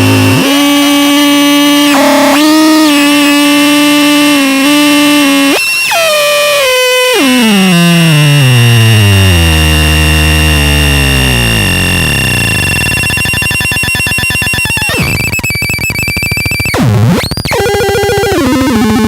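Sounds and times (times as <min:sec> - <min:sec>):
harsh buzzy synth drone: 0:00.0 - 0:19.0.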